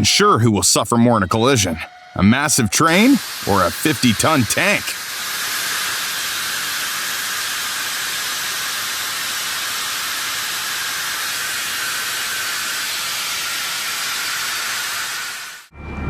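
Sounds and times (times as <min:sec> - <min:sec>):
steady hiss: 0:02.5 - 0:15.7.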